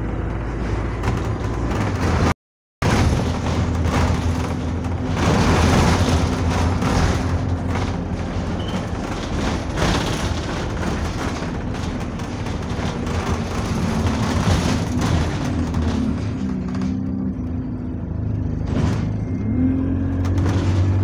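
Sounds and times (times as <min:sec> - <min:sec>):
bus engine drone: 0:00.0 - 0:21.0
thuds and rattles from bus body: 0:00.1 - 0:19.4, 0:20.1 - 0:21.0.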